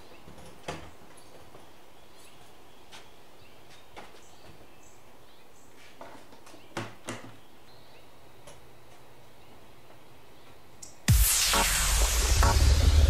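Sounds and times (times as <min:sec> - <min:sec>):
birds chirping: 0:00.0 - 0:11.0
steady outdoor hiss: 0:00.0 - 0:13.0.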